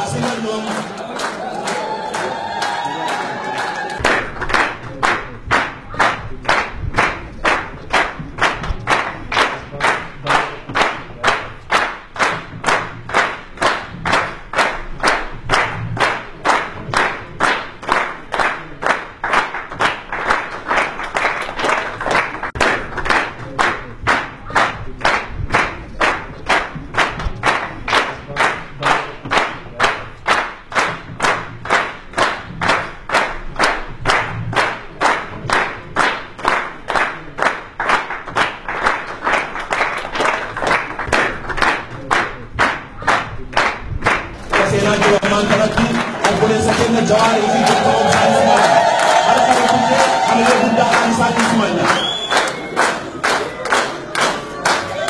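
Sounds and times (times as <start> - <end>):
crowd clapping in rhythm: 0.0 - 55.0.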